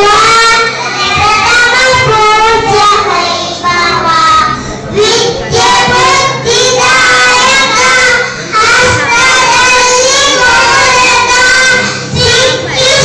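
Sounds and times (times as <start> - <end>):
children chanting: 0.0 - 13.0.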